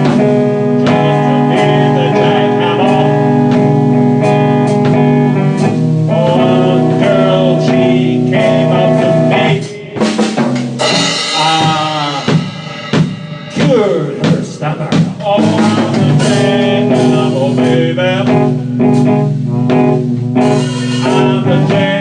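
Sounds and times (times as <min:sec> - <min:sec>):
guitar strumming chords: 0:00.0 - 0:14.4, 0:15.2 - 0:22.0
drums playing: 0:00.0 - 0:22.0.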